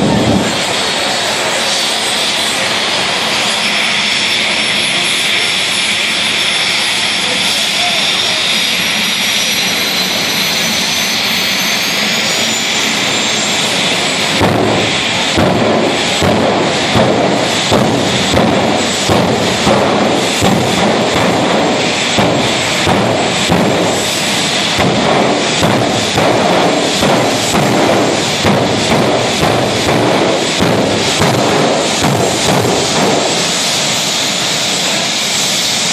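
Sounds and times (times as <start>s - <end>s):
jet engine whine: 0.0s - 35.9s
ragged pulsing jet rumble: 0.0s - 35.9s.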